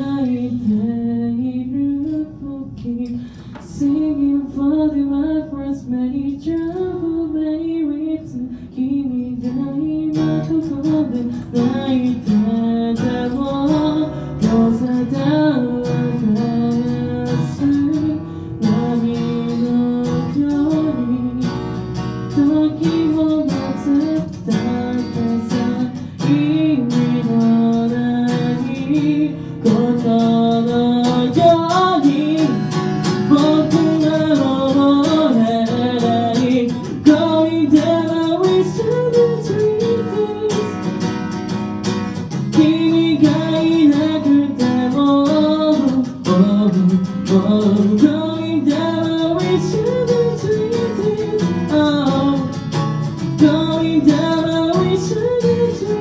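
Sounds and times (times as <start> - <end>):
person singing: 0.0 - 41.1, 42.3 - 56.0
strummed acoustic guitar: 0.0 - 56.0.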